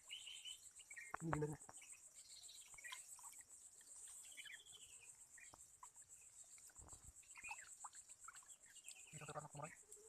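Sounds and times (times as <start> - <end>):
insect chorus trilling: 0.0 - 10.0
short insect chirps: 0.0 - 10.0.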